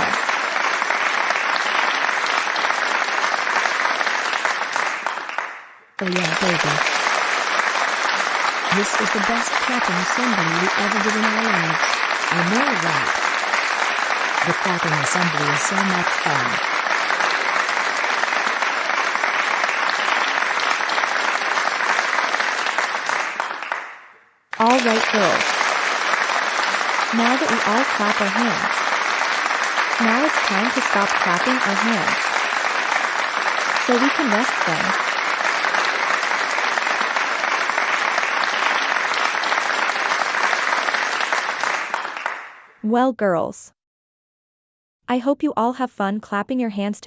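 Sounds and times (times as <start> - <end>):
crowd applause: 0.0 - 42.6.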